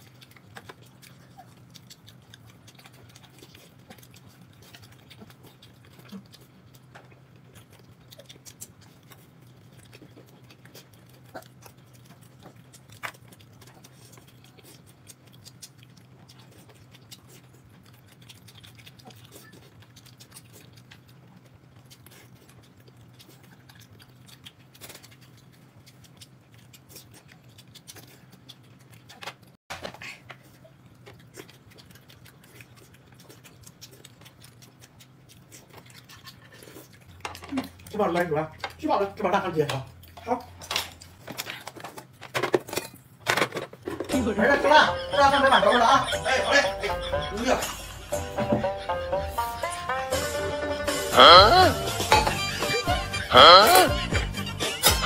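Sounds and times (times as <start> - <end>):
people chewing: 0.0 - 55.0.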